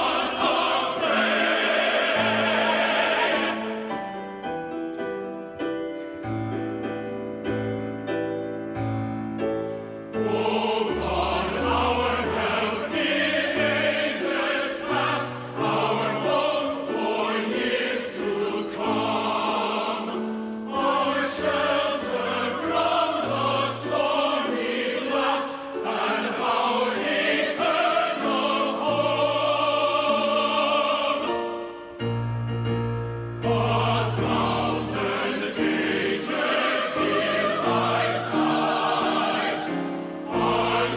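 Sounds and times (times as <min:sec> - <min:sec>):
choir singing a hymn: 0:00.0 - 0:04.8, 0:06.0 - 0:40.9.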